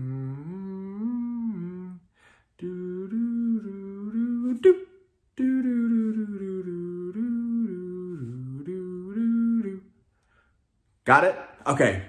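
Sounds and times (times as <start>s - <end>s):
man humming a tune: 0.0s - 10.0s.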